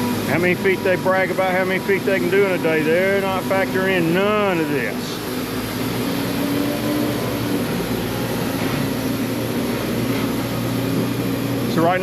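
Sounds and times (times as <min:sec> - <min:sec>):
band saw electric motor running: 0:00.0 - 0:12.0.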